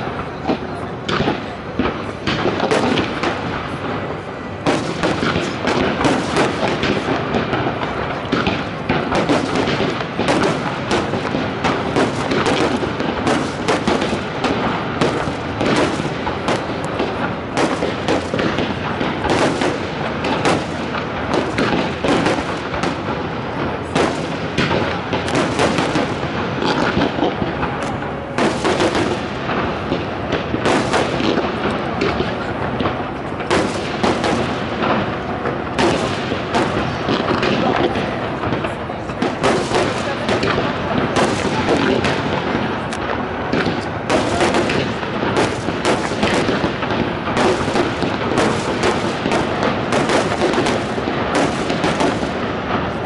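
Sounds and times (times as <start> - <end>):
firework shells bursting: 4.6 - 53.0.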